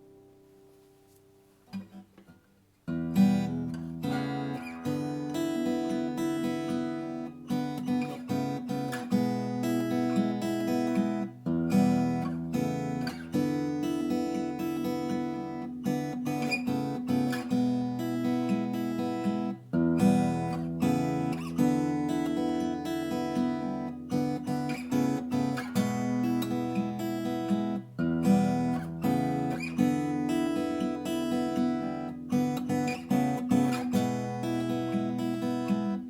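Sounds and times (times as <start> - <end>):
acoustic guitar chords and picked notes: 0.0 - 36.0.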